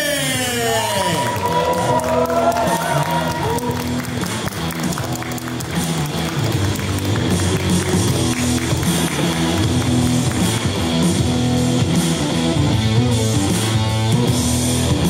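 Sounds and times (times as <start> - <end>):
rock music with electric guitar: 0.1 - 15.0.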